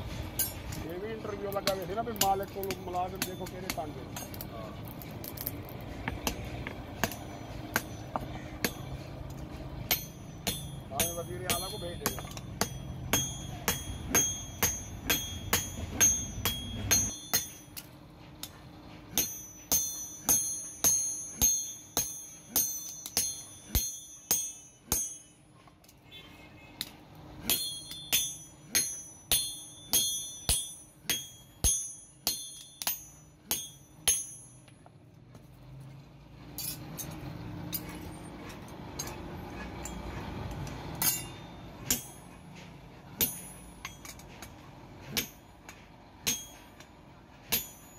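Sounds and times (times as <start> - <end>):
sledgehammer striking steel on anvil: 0.0 - 26.0, 26.8 - 35.5, 36.5 - 47.9.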